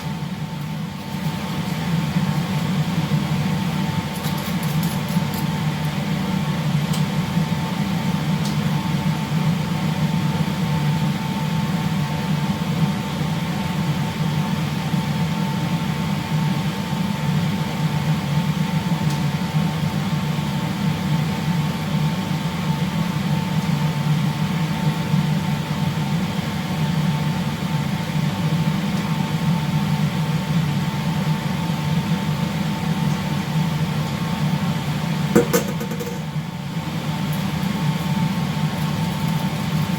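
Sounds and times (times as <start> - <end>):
low machinery hum: 0.0 - 39.9
thin steady whine: 0.0 - 39.9.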